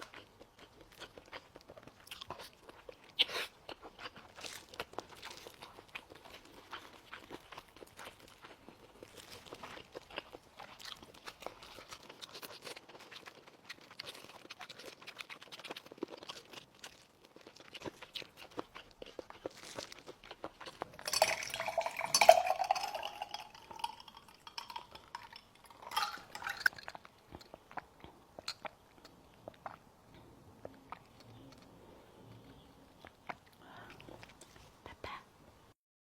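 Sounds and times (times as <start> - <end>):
close chewing and mouth clicks: 0.0 - 35.3.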